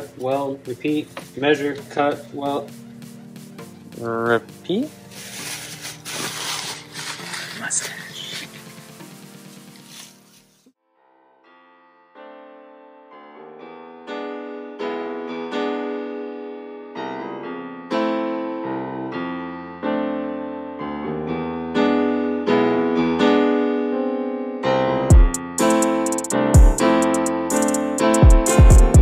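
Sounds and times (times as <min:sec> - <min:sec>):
piano melody: 0:00.0 - 0:29.0.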